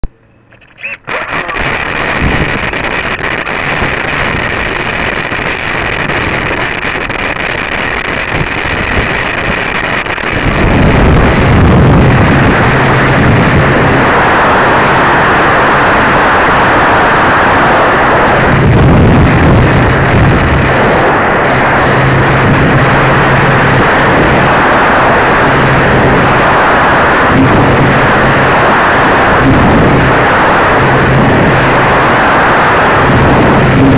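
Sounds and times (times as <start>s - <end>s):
steady low hum: 0.0s - 33.9s
electric motor and propeller: 0.4s - 33.9s
wind rush over microphone: 0.8s - 33.9s.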